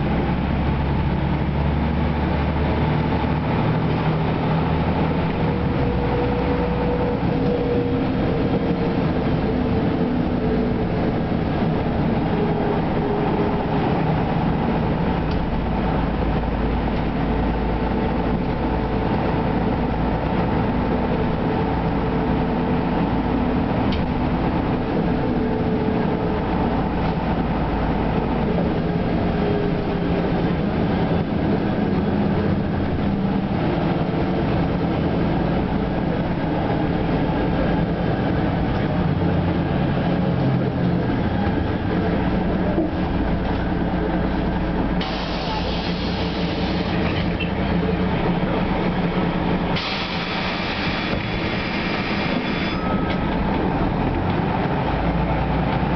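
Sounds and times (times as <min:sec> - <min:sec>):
bus diesel engine drone: 0:00.0 - 0:55.9
road and body noise: 0:00.0 - 0:55.9.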